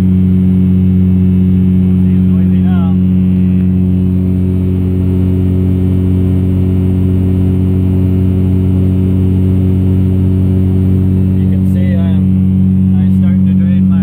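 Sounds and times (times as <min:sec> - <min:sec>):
diesel engine drone inside cab: 0:00.0 - 0:14.0.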